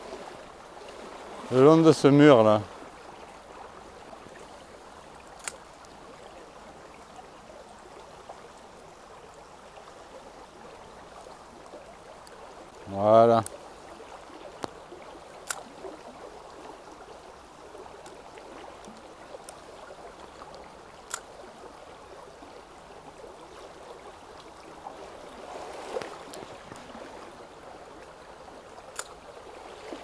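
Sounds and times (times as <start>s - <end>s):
stream running over stones: 0.0s - 30.0s.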